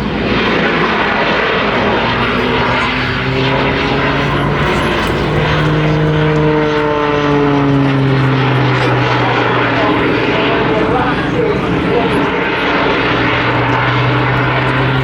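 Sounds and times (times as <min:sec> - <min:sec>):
propeller aircraft flying over: 0:00.0 - 0:15.0.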